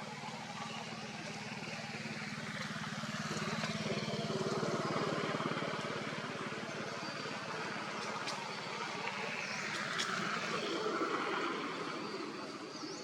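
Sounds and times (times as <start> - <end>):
motor engine running: 0.0 - 12.6
outdoor noise: 0.0 - 13.0.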